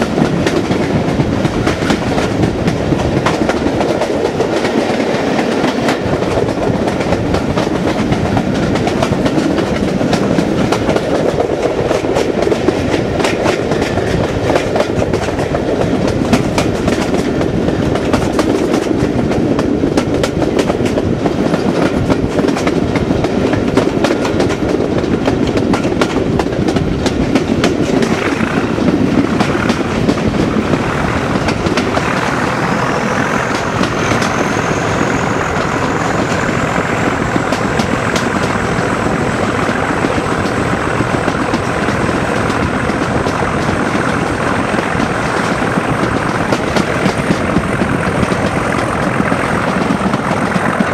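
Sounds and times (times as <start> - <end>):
diesel locomotive engine working hard: 0.0 - 50.9
train wheels clattering over rail joints: 0.0 - 50.9.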